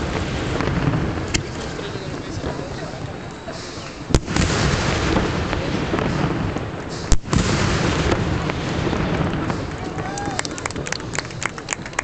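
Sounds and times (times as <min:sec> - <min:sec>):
fireworks rumble and crackle: 0:00.0 - 0:12.0
fireworks sharp bangs: 0:00.0 - 0:12.0.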